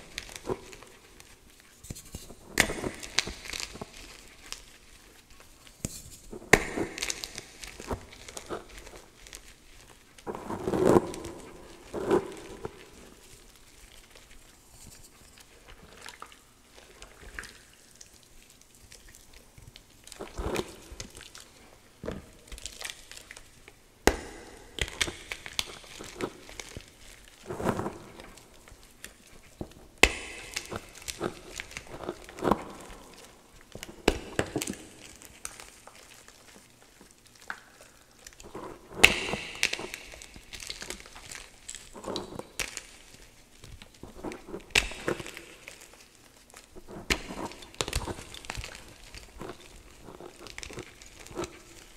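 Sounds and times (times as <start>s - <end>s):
hand crushing damp chalk: 0.0s - 16.1s, 20.1s - 51.9s.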